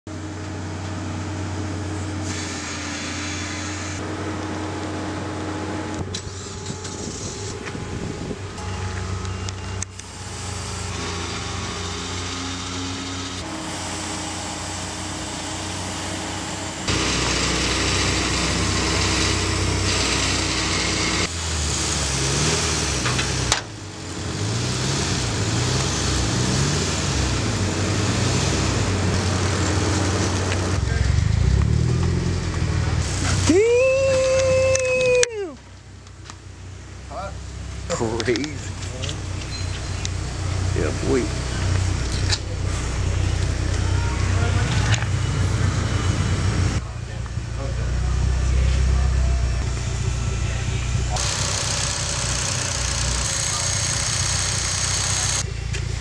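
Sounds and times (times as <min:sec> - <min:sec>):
truck engine running: 0:00.1 - 0:56.0.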